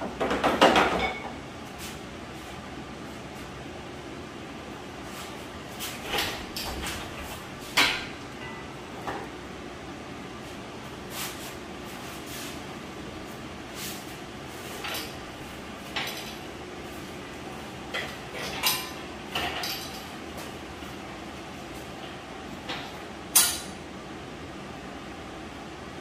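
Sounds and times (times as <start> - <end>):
steady shop hum: 0.0 - 26.0.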